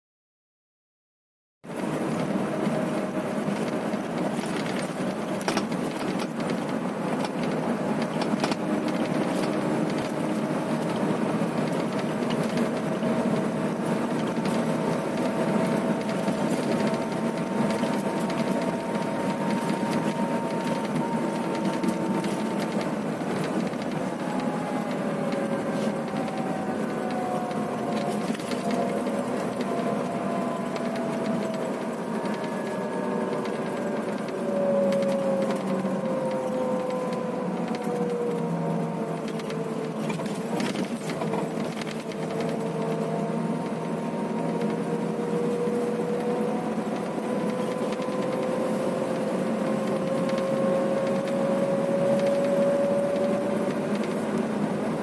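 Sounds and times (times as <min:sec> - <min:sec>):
engine and road noise drone: 0:01.6 - 0:55.0
interior rattles and clicks: 0:01.7 - 0:55.0.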